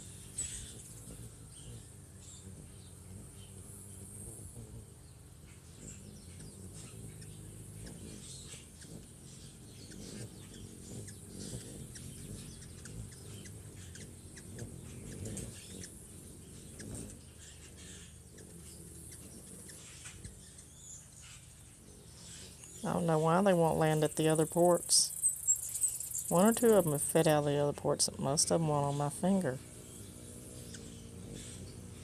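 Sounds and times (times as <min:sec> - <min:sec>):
hummingbird chip calls: 0:00.0 - 0:32.0
steady low hum: 0:00.0 - 0:32.0.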